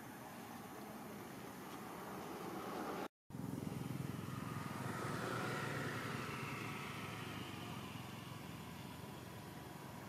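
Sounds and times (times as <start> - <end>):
faint engine whine: 0.0 - 10.0
vehicle engine rumbling: 0.1 - 10.0.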